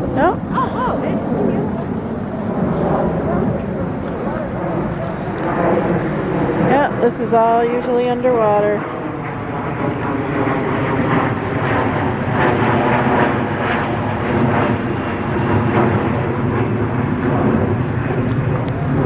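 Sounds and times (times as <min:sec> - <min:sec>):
airplane engine passing: 0:00.0 - 0:19.0.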